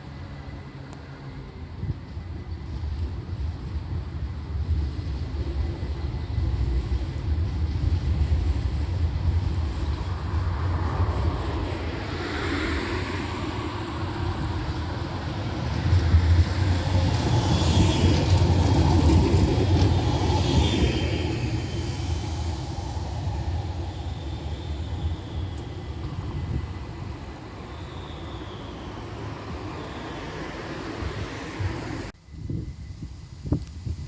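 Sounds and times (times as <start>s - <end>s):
tram rumbling on rails: 0.0s - 34.0s
high-pitched rail noise: 4.7s - 33.4s.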